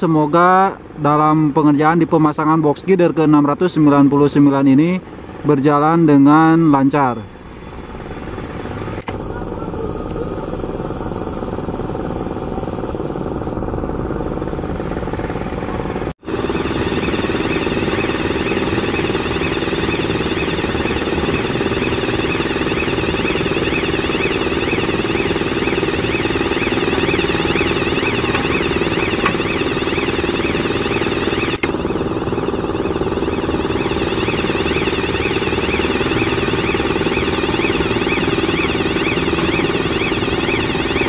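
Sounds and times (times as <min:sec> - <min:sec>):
machinery engine drone: 0:03.3 - 0:41.0
warbling warning tone: 0:06.3 - 0:41.0.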